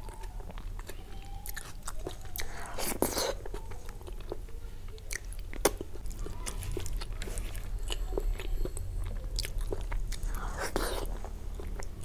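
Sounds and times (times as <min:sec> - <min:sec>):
chewing soft food: 0:00.0 - 0:12.0.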